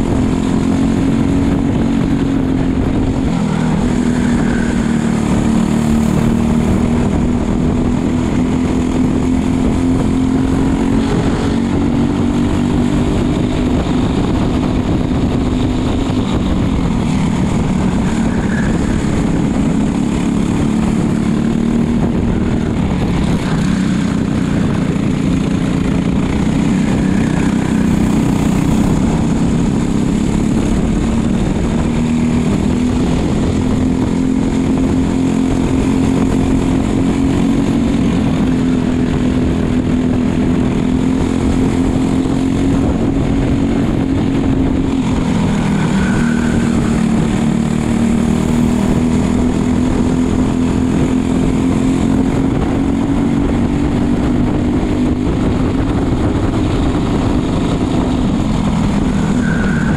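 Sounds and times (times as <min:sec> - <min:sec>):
racing kart engine: 0:00.0 - 0:59.9
wind rush: 0:00.0 - 0:59.9.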